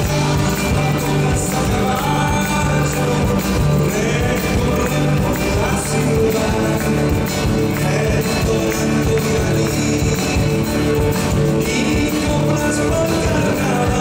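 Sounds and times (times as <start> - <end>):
live folk band music: 0.0 - 14.0
man singing into microphone: 0.0 - 14.0.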